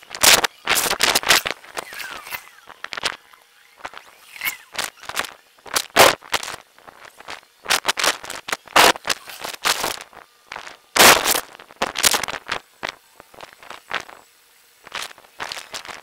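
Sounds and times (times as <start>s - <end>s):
crackling noise: 0.0s - 16.0s.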